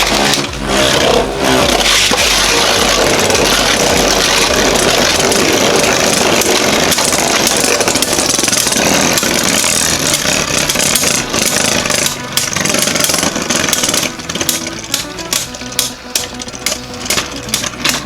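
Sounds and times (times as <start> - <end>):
spinning tops whirring and clattering: 0.0 - 18.0.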